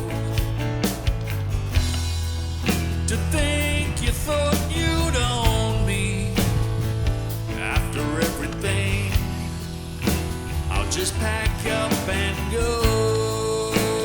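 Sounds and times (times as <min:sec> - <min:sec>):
rock music with singing: 0:00.0 - 0:14.0.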